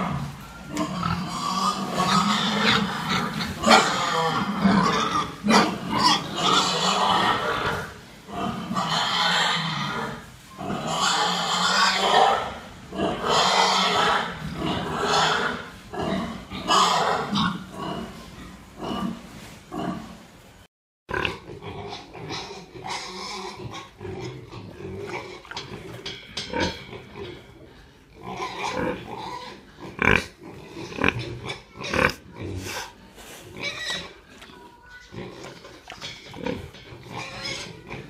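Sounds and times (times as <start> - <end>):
pigs grunting: 0.0 - 20.2, 21.1 - 38.0.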